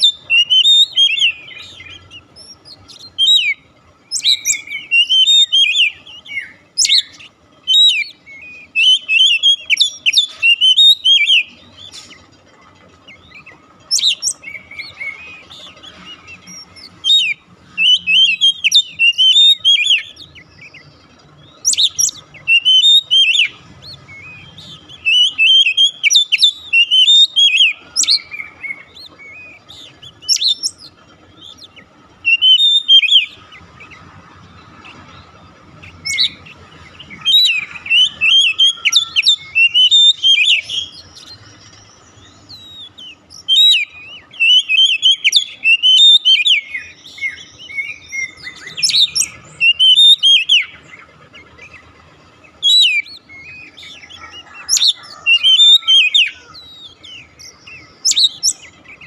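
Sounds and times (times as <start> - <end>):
bird singing whistles and chirps: 0.0 - 12.2, 13.1 - 34.1, 34.7 - 59.0.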